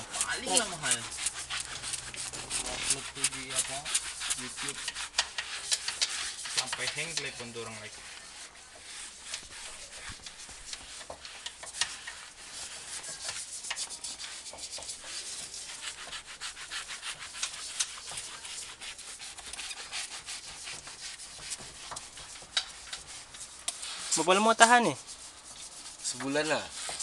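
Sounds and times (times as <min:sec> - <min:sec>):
scrub pad scrubbing leather seat: 0:00.0 - 0:27.0.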